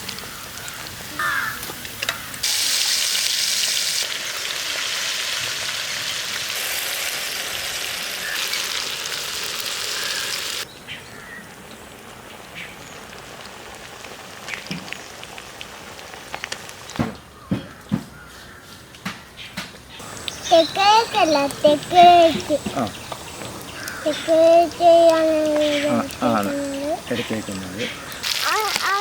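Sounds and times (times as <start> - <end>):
chicken sizzling in hot oil: 0.0 - 17.0, 20.0 - 29.0.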